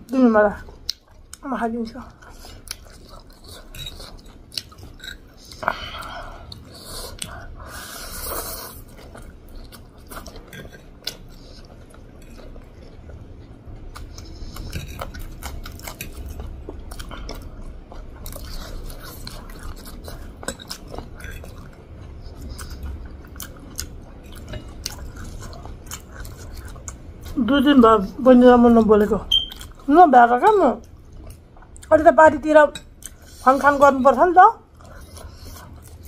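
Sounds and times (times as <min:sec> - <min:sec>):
chewing with mouth smacks: 0:00.0 - 0:01.4, 0:02.0 - 0:27.5, 0:28.8 - 0:29.9, 0:30.8 - 0:31.9, 0:32.8 - 0:33.4, 0:34.7 - 0:36.0.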